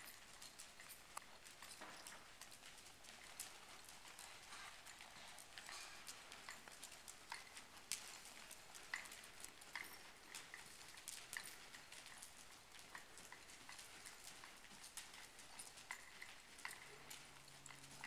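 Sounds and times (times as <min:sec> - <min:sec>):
horse hooves trotting on soft dirt: 0:00.0 - 0:18.0.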